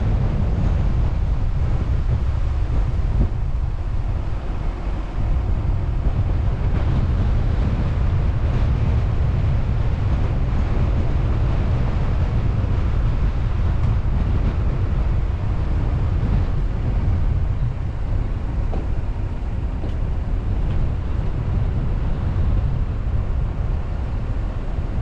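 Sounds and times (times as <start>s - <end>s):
heavy low rumble: 0.0s - 25.0s
moving car noise: 0.0s - 25.0s
wind buffeting microphone: 0.0s - 25.0s.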